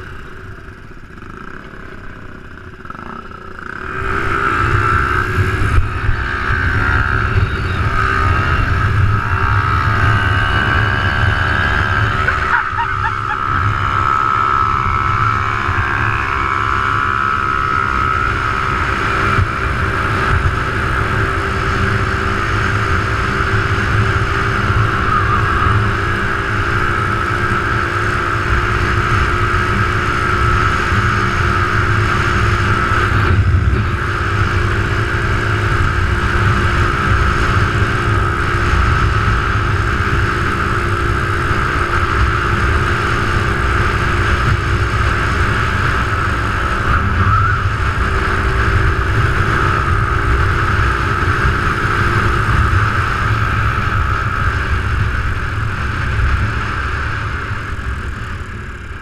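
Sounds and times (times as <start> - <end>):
motorcycle engine hum with whine: 0.0 - 59.0
wind rumble on microphone: 3.8 - 59.0.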